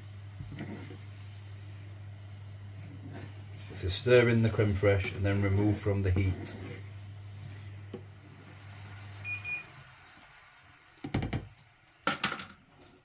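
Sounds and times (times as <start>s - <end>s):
induction hob humming: 0.0s - 11.6s.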